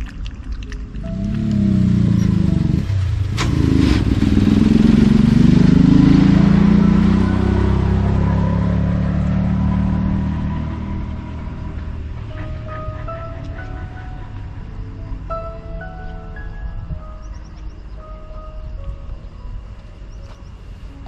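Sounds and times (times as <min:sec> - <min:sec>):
vehicle engine running: 0:01.0 - 0:21.0.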